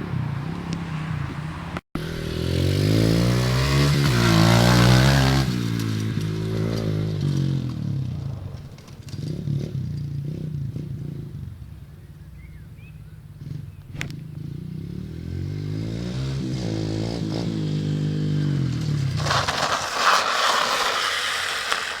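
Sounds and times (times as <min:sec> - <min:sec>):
small motorbike engine revving: 0:02.0 - 0:22.0.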